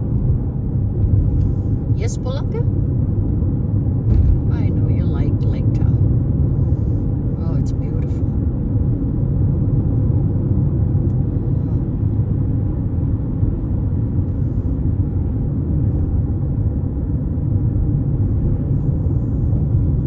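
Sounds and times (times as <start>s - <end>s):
moving car rumble: 0.0s - 20.0s.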